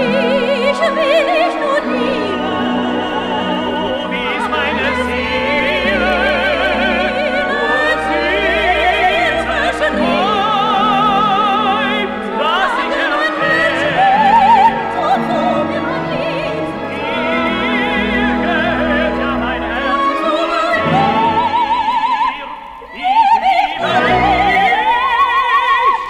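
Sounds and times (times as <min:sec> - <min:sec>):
orchestral accompaniment: 0:00.0 - 0:23.0
operatic singer with vibrato: 0:00.0 - 0:26.0.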